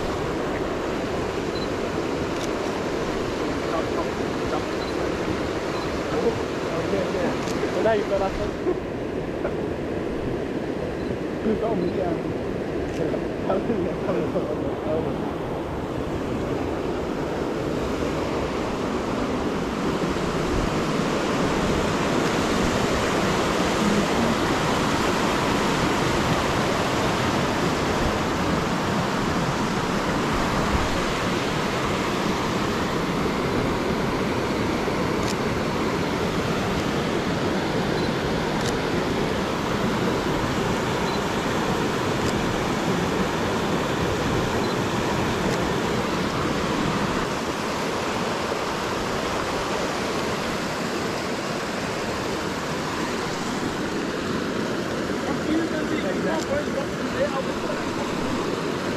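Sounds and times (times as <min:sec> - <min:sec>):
creek cascading over boulders: 0:00.0 - 0:58.9.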